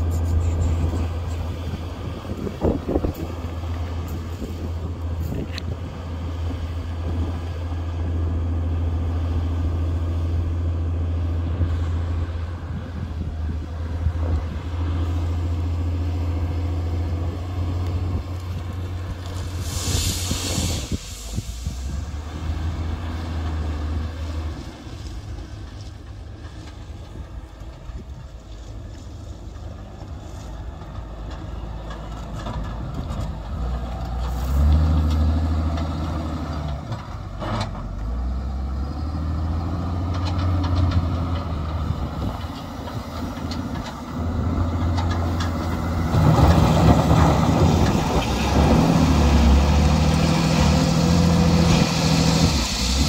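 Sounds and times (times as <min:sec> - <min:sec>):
diesel loader engine revving: 0:00.0 - 0:53.0.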